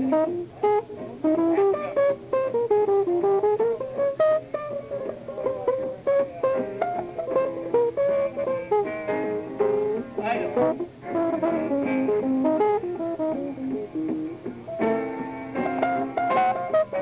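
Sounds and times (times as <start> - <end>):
guitar quick plucked notes: 0.0 - 17.0
jazz trio playing: 0.0 - 17.0.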